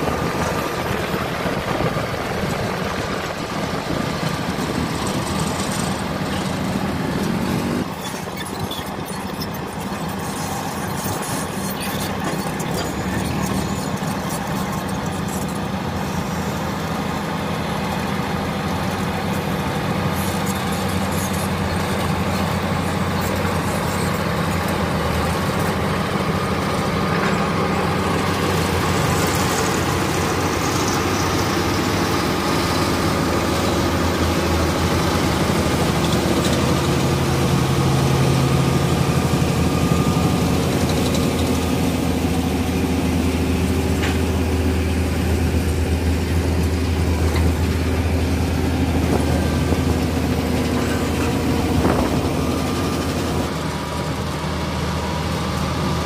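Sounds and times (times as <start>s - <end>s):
road roller diesel engine running: 0.0s - 56.0s.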